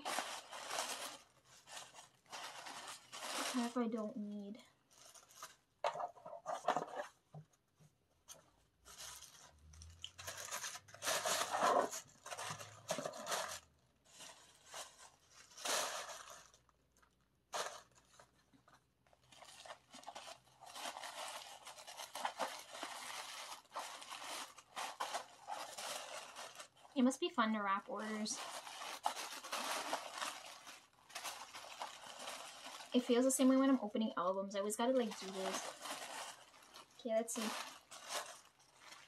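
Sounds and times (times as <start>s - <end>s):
paper wrapping crinkling: 0.0s - 39.0s.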